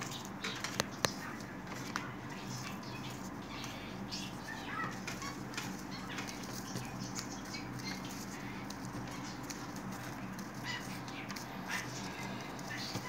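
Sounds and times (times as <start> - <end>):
paper rustling: 0.0 - 13.0
steady low hum: 0.0 - 13.0.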